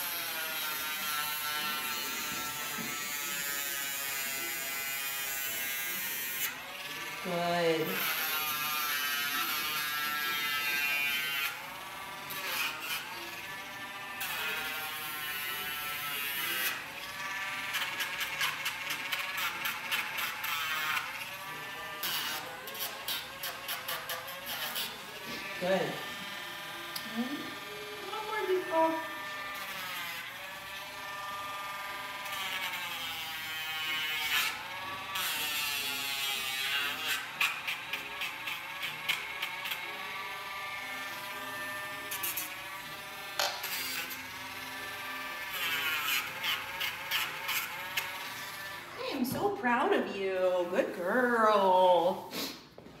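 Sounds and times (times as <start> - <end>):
rotary nail grinder whirring: 0.0 - 49.8.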